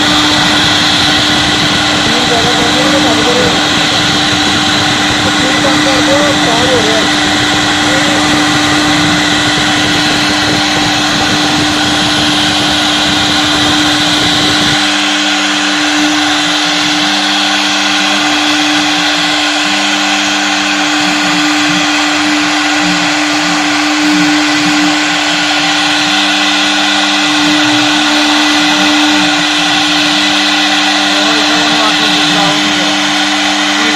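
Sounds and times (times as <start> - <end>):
wood router spindle whine: 0.0 - 33.9.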